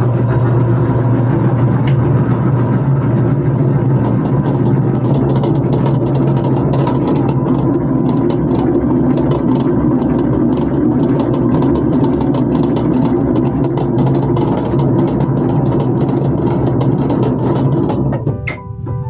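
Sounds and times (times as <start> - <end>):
dough mixer motor hum: 0.0 - 18.4
mixer clicks and rattles: 0.0 - 18.6.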